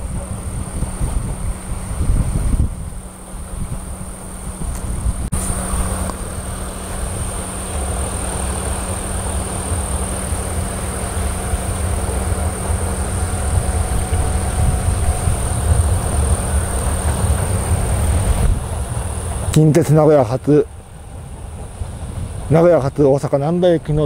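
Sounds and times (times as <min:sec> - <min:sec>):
electric train rumble: 0:00.0 - 0:24.0
high whine: 0:00.0 - 0:24.0.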